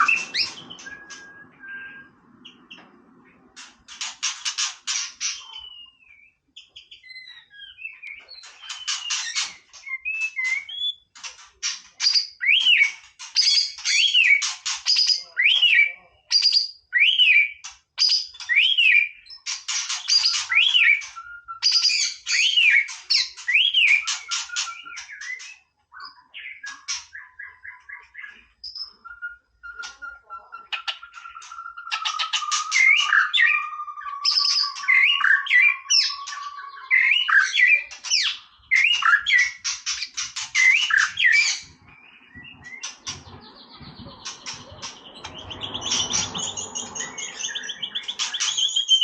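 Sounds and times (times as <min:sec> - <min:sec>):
bird singing trills and whistles: 0:00.0 - 0:02.9, 0:03.9 - 0:49.0.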